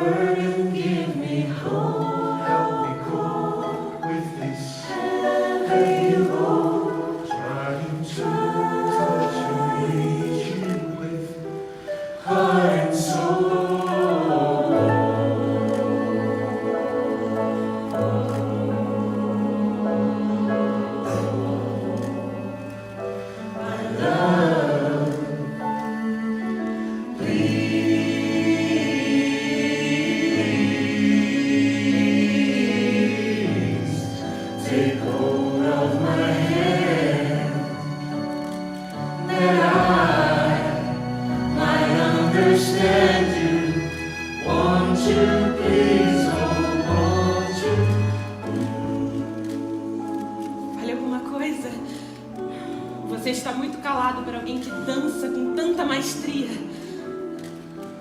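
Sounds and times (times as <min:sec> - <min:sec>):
choir singing: 0:00.0 - 0:53.4
sustained instrumental accompaniment: 0:00.0 - 0:58.0.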